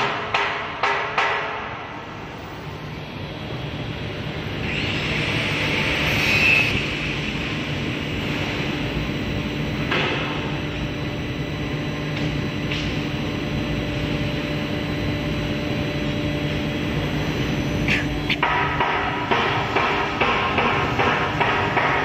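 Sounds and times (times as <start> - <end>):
high whining cutting hiss: 2.0 - 20.4
router machine humming: 2.2 - 21.9.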